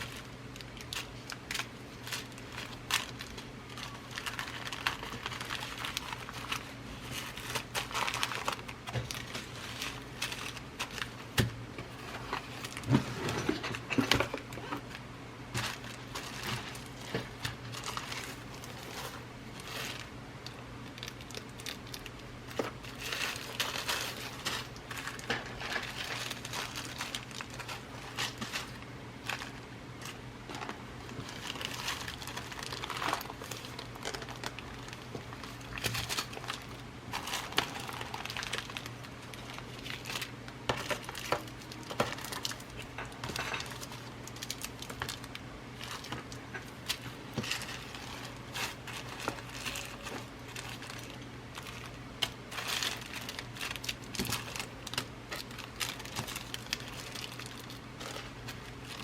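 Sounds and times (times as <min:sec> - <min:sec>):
plastic packets crinkling: 0:00.0 - 0:59.0
steady low hum: 0:00.0 - 0:59.0.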